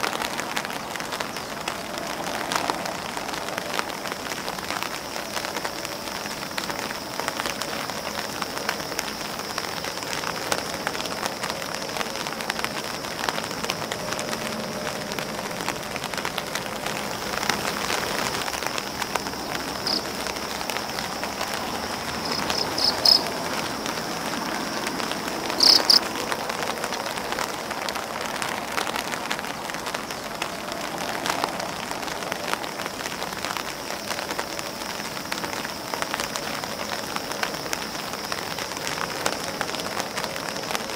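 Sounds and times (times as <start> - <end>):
rain pattering on leaves and umbrella: 0.0 - 40.9.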